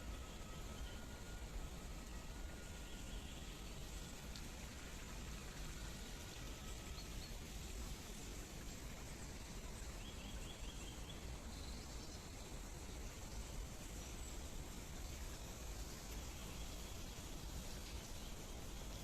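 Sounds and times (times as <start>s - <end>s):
water babbling: 0.0s - 19.0s.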